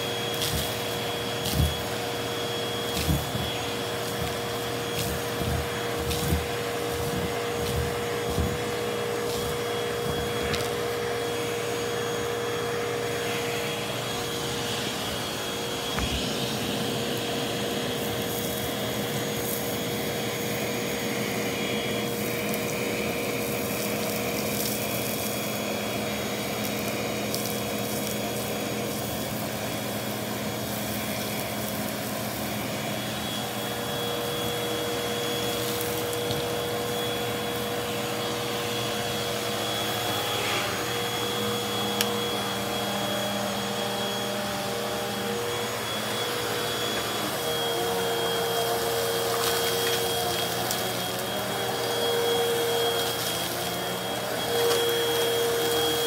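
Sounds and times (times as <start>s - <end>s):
vacuum cleaner whining: 0.0s - 56.0s.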